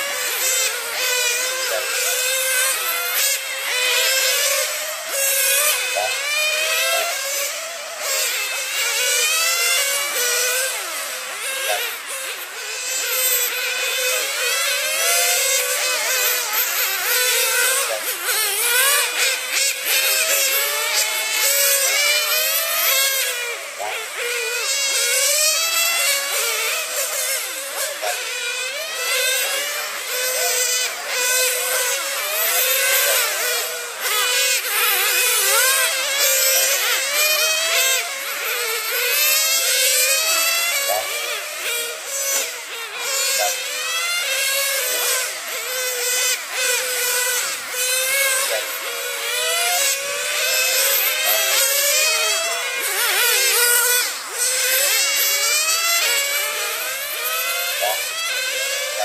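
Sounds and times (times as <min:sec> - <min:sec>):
small engines screaming: 0:00.0 - 0:59.0.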